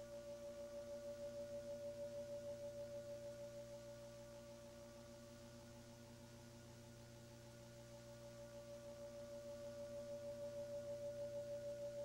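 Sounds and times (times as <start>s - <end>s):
faint wobbling humming tone: 0.0s - 12.0s.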